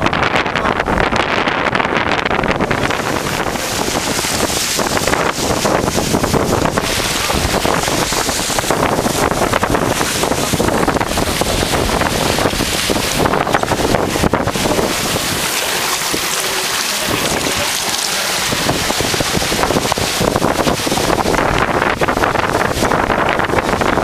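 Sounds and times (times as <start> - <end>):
water rushing past hull: 0.0 - 24.0
wind buffeting microphone: 0.0 - 24.0.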